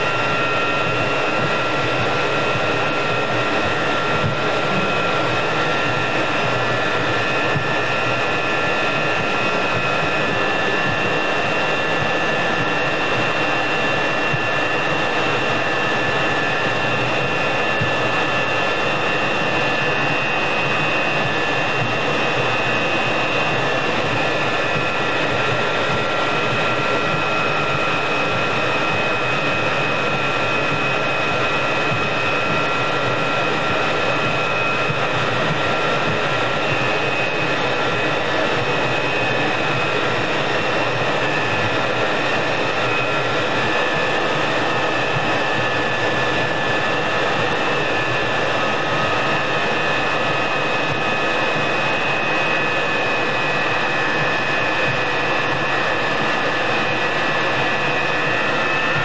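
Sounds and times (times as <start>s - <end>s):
jet engine running: 0.0s - 59.0s.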